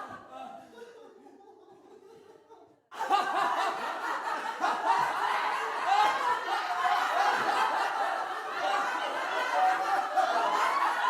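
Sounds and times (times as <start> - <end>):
group of people laughing: 0.0 - 11.0.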